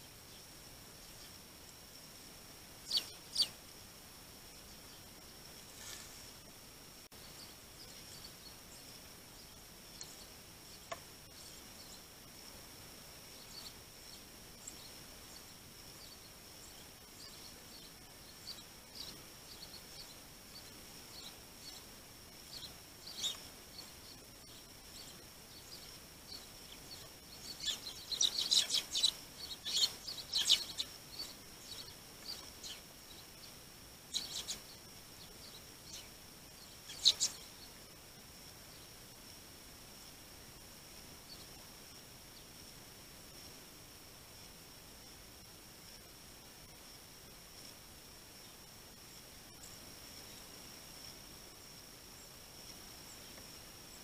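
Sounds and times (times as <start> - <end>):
small birds chirping: 0.0 - 39.4, 40.0 - 43.6, 45.8 - 54.0
faint high whine: 0.0 - 54.0.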